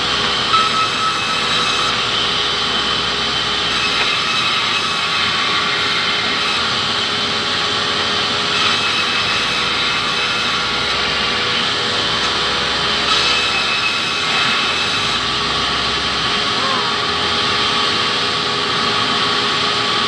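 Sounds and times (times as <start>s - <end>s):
band saw whining: 0.0s - 20.0s.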